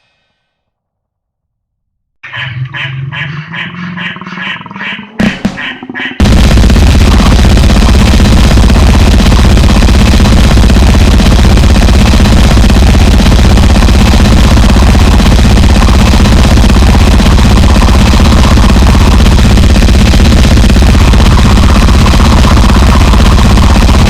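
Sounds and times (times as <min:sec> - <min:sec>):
harsh distorted noise music: 0:02.2 - 0:24.0.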